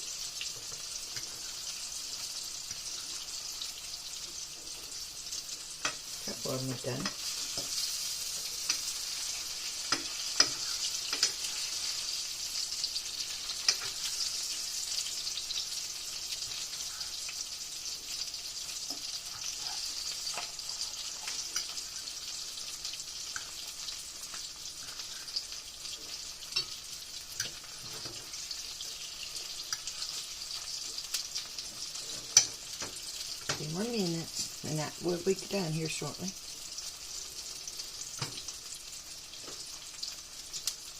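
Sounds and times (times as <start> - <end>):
tomato slices sizzling in pan: 0.0 - 40.9.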